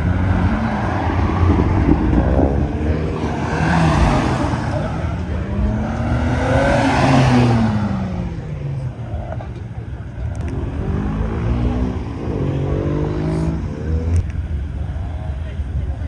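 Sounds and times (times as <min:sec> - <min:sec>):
car engine revving driving past: 0:00.0 - 0:09.6, 0:10.4 - 0:14.3.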